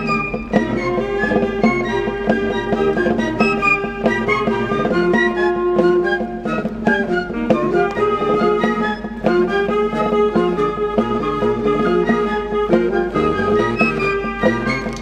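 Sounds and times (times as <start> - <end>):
marching band playing march: 0.0 - 15.0.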